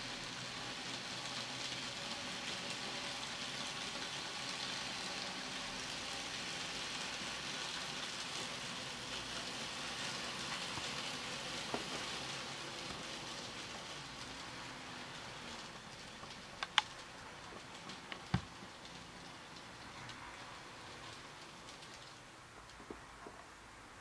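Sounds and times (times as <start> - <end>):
model train wheels and motor hiss: 0.0 - 24.0.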